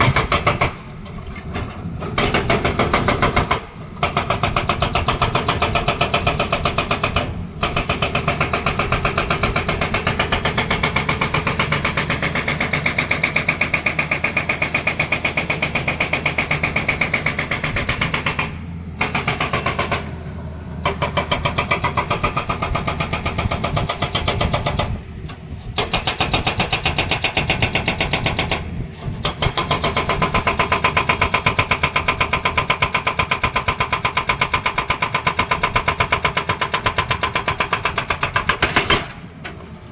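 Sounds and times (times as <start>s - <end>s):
hydraulic breaker hammering: 0.0s - 25.0s, 25.7s - 39.3s
excavator engine running: 0.0s - 39.9s.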